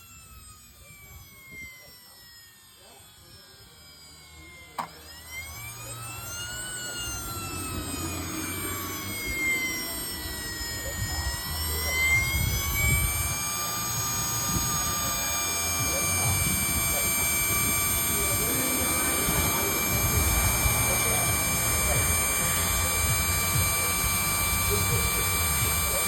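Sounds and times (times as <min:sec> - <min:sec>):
jet turbine whining: 0:00.0 - 0:26.0.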